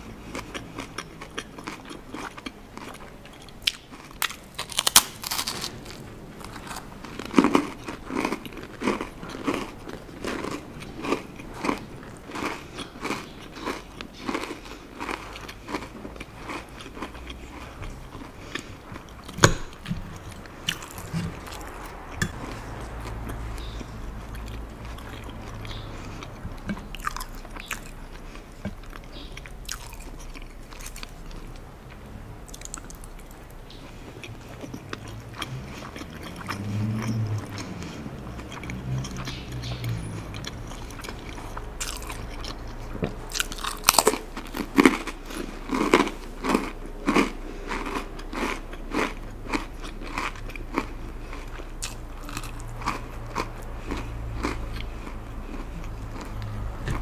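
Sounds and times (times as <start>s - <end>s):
cracker crunching: 0.0s - 57.0s
soft wet chewing: 0.0s - 57.0s.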